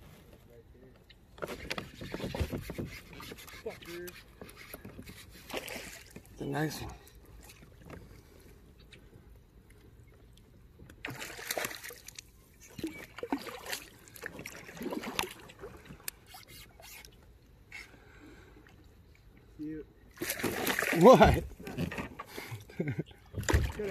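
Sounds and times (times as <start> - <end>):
water splashing and sloshing: 0.0 - 23.9.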